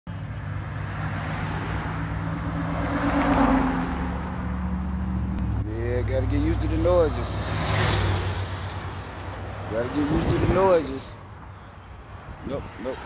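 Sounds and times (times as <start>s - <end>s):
car passing: 0.1s - 13.0s
low hum of traffic: 0.1s - 13.0s.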